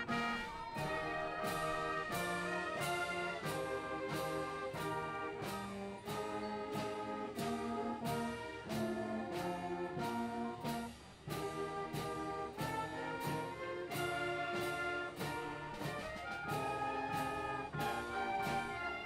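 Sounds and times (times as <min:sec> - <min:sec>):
processional brass and orchestra music: 0:00.0 - 0:19.0.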